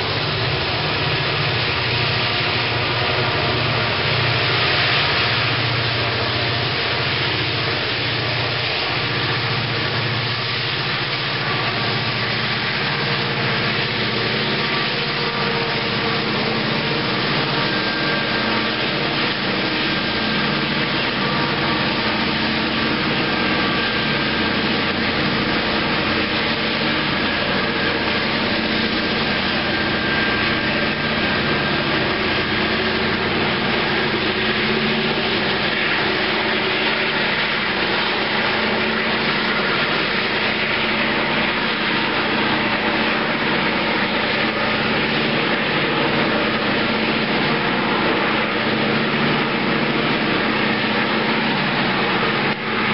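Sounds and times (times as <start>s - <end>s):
locomotive engine drone: 0.0s - 52.9s.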